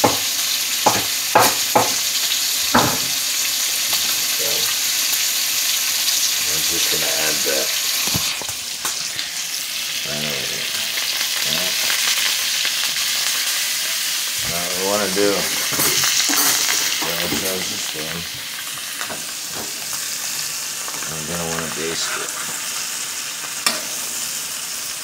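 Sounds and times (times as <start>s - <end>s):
steak sizzling in a pan: 0.0s - 25.0s.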